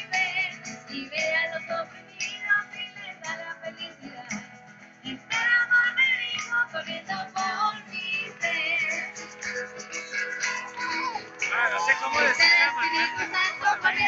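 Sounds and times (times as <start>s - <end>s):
song with singing over guitar: 0.0s - 14.0s.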